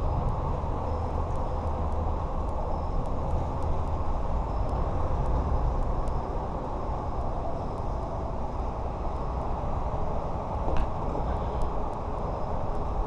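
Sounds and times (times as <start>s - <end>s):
faint high ticks: 0.0s - 9.6s, 10.7s - 13.0s
low rumbling outdoor noise: 0.0s - 13.0s.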